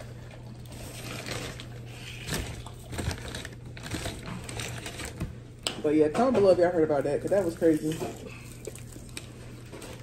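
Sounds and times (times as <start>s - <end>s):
chewing and crunching fried food: 0.0s - 5.6s, 6.9s - 10.0s.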